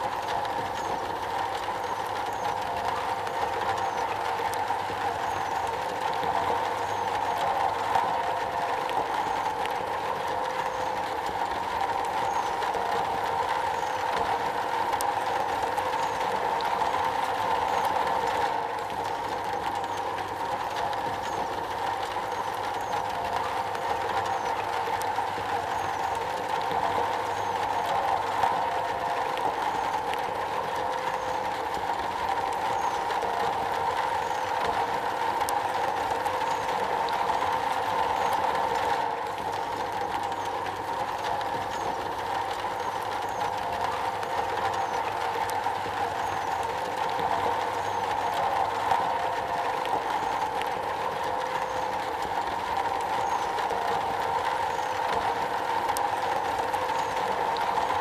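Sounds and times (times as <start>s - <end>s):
rain on a metal roof: 0.0s - 58.0s.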